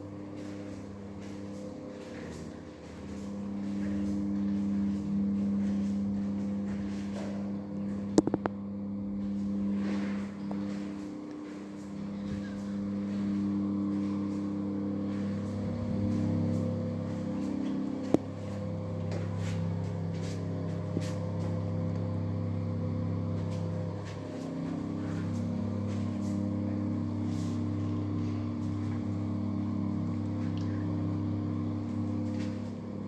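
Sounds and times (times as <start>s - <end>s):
low mechanical drone: 0.0s - 33.0s.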